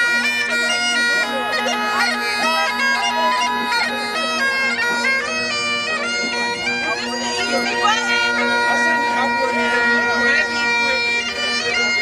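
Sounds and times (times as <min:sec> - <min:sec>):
bagpipes playing: 0:00.0 - 0:12.0.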